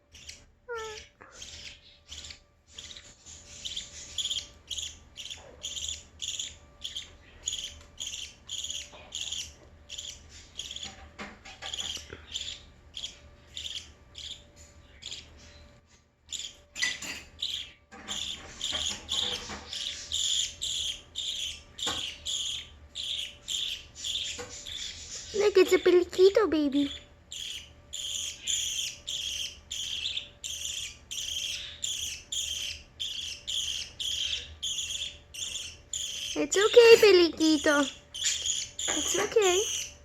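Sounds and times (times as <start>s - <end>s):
budgie chicks cheeping: 0.0s - 40.0s.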